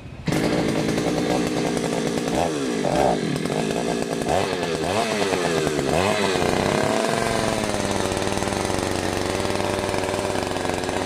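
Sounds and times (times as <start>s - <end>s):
auger engine running: 0.2s - 11.0s
recoil starter pull: 0.2s - 11.0s.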